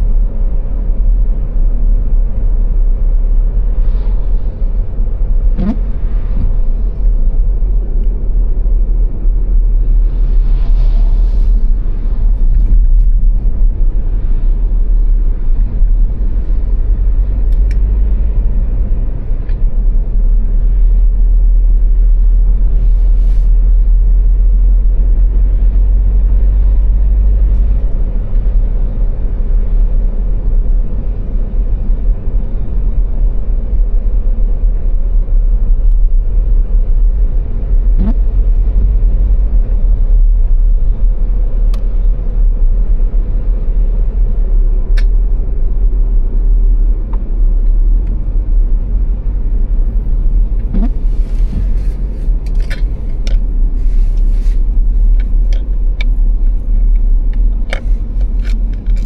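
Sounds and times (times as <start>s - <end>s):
car engine and tyre road noise: 0.0s - 59.0s.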